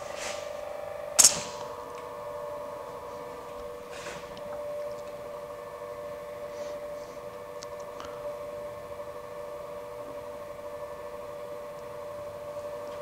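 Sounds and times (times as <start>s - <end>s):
milling machine feed whine: 0.0s - 13.0s.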